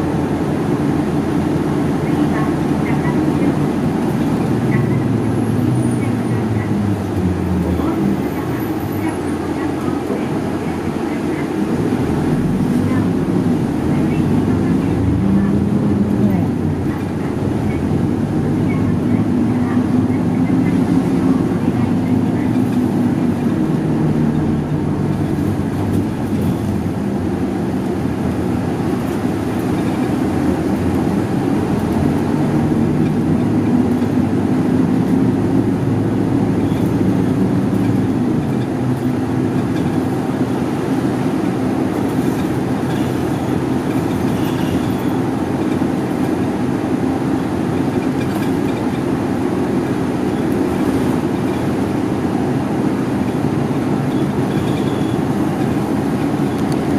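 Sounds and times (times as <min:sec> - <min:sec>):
bus engine drone: 0:00.0 - 0:56.9
road and tyre noise: 0:00.0 - 0:56.9.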